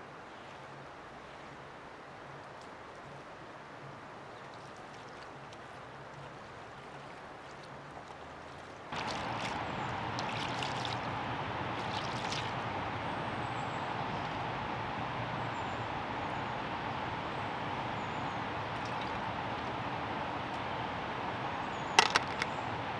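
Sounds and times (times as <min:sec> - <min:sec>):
stream water rushing: 0:00.0 - 0:22.9.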